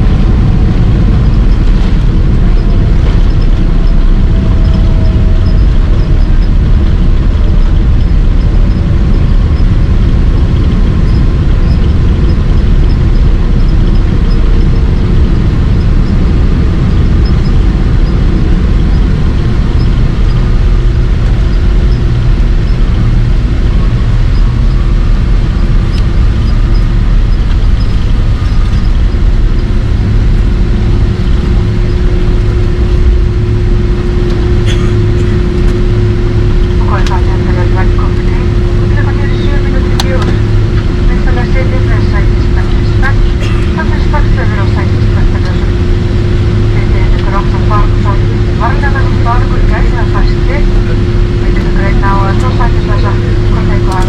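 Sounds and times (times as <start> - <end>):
jetliner engine rumble: 0.0 - 54.0
steady hum: 0.0 - 54.0.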